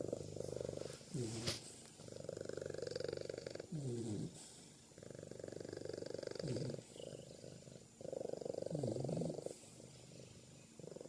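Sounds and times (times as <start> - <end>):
pet purring: 0.0 - 11.0.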